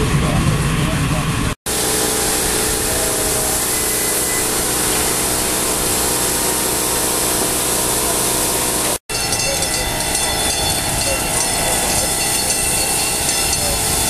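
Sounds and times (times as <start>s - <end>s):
steam hissing: 1.7s - 14.0s.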